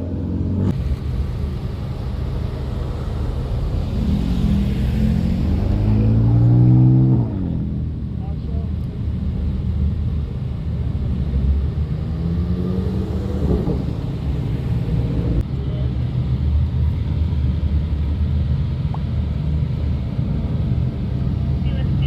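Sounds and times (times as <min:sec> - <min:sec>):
car engine rumble: 0:00.0 - 0:22.0
road noise: 0:00.0 - 0:22.0.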